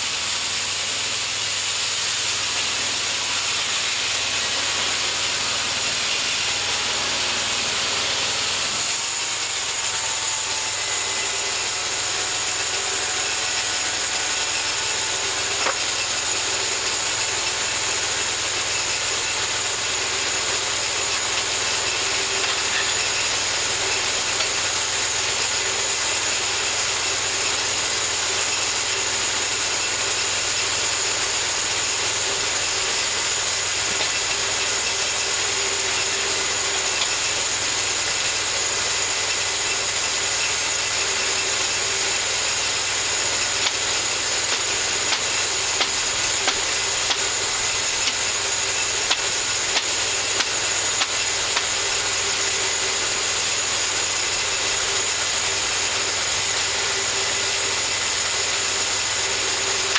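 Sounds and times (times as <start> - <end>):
bandsaw mill cutting log: 0.0 - 59.9.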